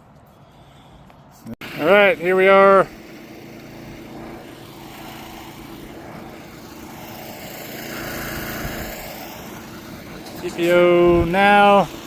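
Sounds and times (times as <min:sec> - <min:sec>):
outdoor background noise: 0:00.0 - 0:12.0
engine humming: 0:01.1 - 0:12.0.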